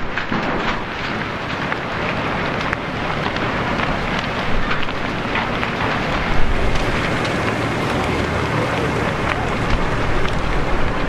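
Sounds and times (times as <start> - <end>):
fire rushing and crackling: 0.0 - 11.0.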